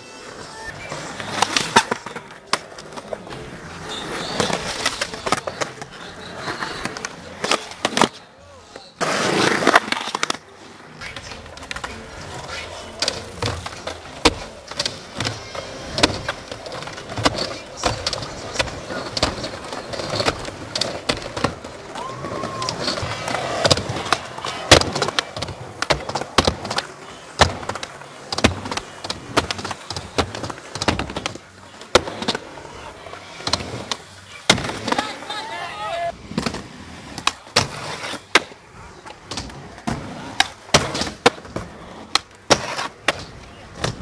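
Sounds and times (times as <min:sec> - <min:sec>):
skateboard trucks grinding: 0:00.0 - 0:44.0
skateboard wheels rolling on concrete: 0:00.0 - 0:44.0
skateboard clacks: 0:00.8 - 0:44.0.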